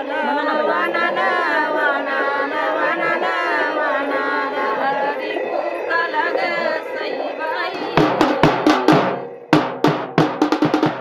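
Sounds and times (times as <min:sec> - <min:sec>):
women singing together: 0:00.0 - 0:09.9.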